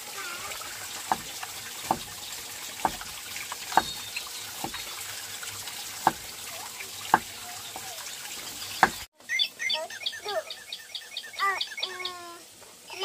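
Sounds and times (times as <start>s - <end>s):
water dripping and splashing: 0.0s - 9.1s, 11.3s - 13.0s.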